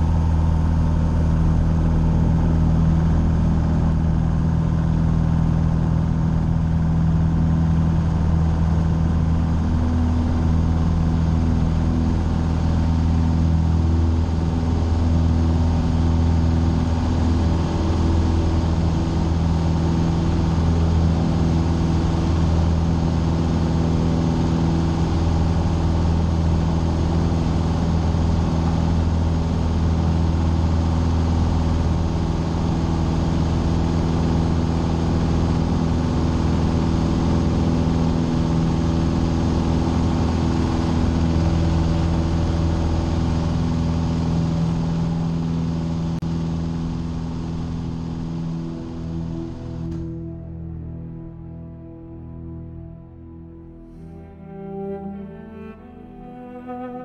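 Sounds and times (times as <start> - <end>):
aircraft engine and propeller: 0.0 - 53.0.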